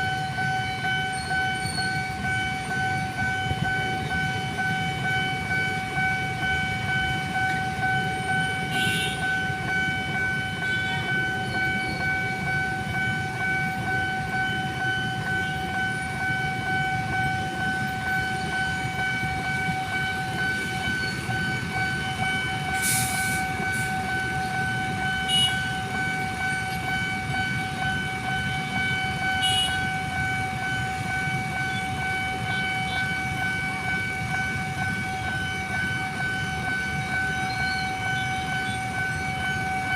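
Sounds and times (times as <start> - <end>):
low rumble of passing train: 0.0 - 39.9
steady high warning tone: 0.0 - 39.9.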